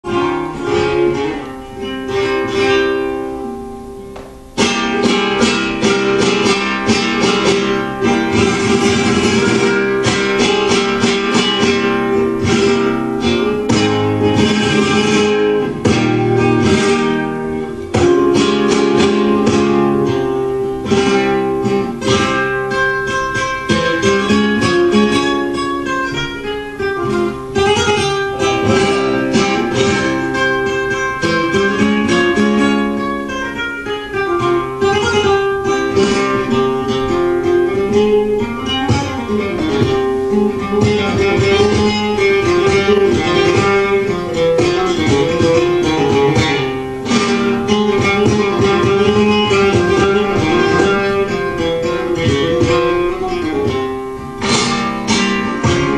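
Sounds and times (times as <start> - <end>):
flamenco guitar strumming: 0.0 - 55.9.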